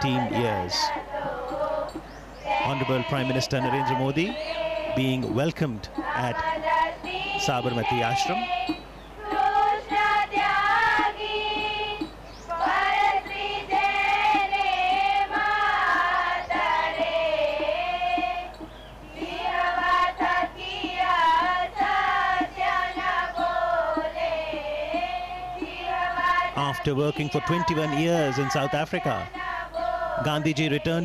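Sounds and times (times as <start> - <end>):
group of voices singing: 0.0 - 31.0
light taps keeping a beat: 0.0 - 31.0.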